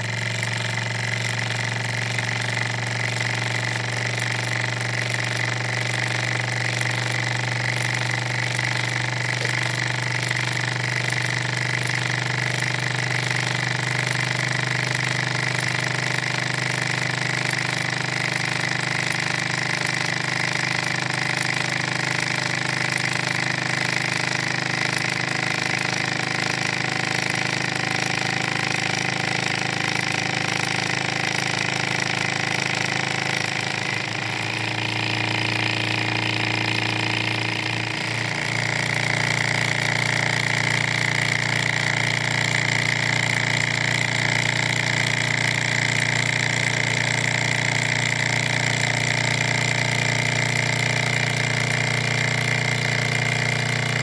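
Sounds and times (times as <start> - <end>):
stirling engine running: 0.0 - 54.0.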